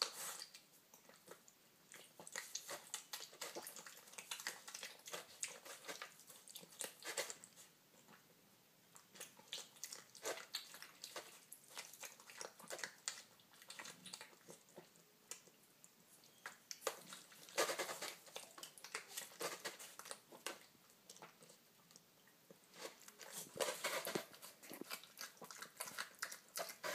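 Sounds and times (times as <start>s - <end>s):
piglet smacking and chewing: 0.0s - 26.9s.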